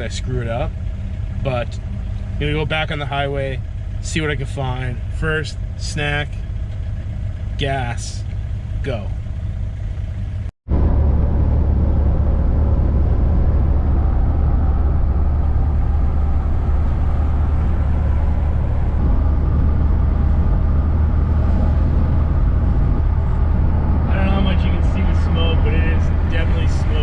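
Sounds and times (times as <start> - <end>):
van engine and road drone: 0.0 - 27.0.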